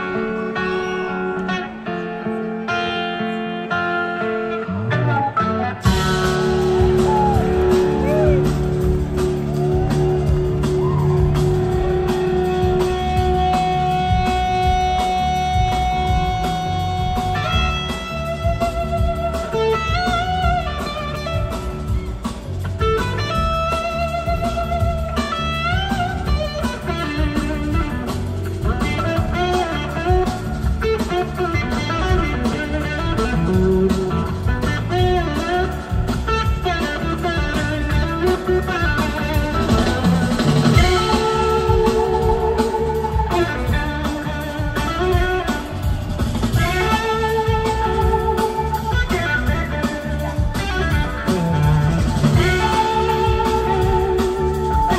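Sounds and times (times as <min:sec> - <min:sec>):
blues-rock band playing: 0:00.0 - 0:54.9
electric slide guitar: 0:00.0 - 0:54.9.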